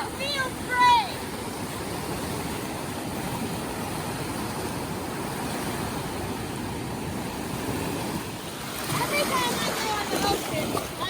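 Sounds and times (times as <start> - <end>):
ocean surf washing: 0.0 - 11.0.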